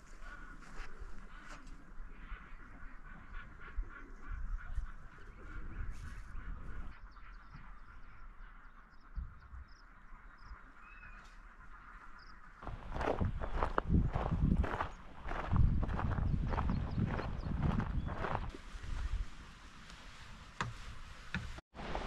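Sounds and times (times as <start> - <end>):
flock of birds calling: 0.0 - 18.6.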